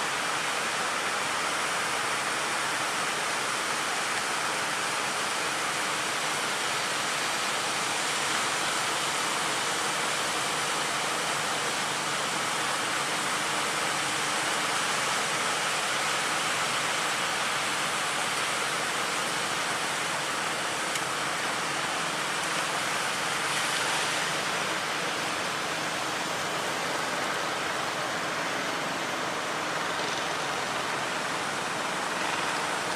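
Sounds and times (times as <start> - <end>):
water rushing: 0.0 - 32.9.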